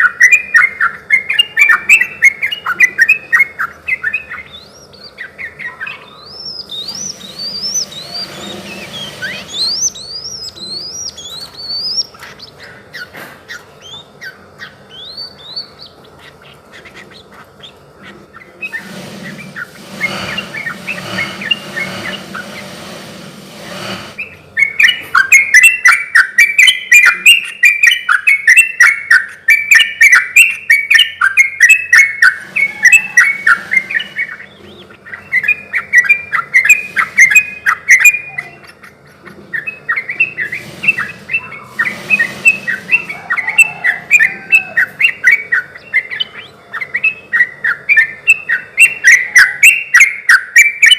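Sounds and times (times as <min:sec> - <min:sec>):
bulbul singing: 0:00.0 - 0:50.9.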